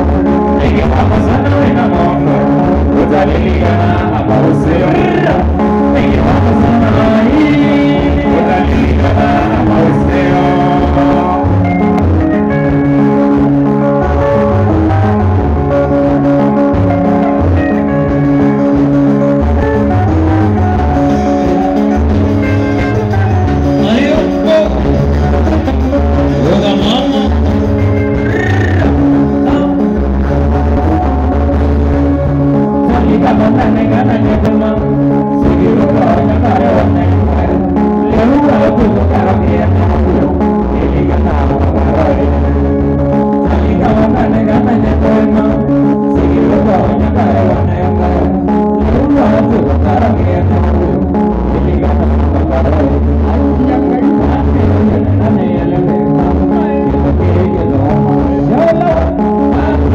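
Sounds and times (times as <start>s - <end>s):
bass guitar: 0.0s - 59.9s
drum kit: 0.0s - 59.9s
electric guitar: 0.0s - 59.9s
live rock band playing: 0.0s - 59.9s
person singing: 0.0s - 59.9s.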